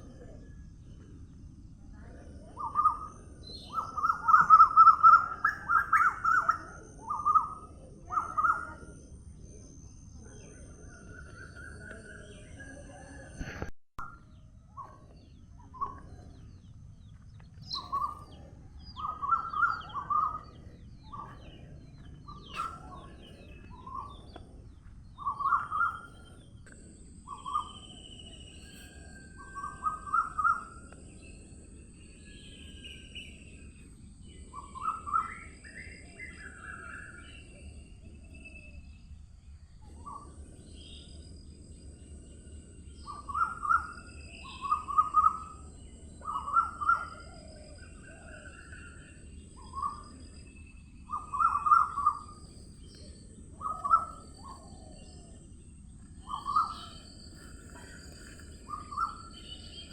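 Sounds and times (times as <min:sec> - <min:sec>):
faint high bird chirps: 0:00.0 - 0:59.9
low steady background noise: 0:00.0 - 0:59.9.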